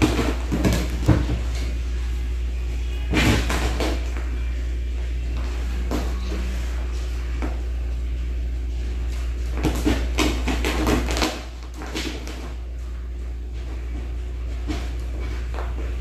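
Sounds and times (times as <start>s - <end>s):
low hum: 0.0s - 10.2s, 11.4s - 16.0s.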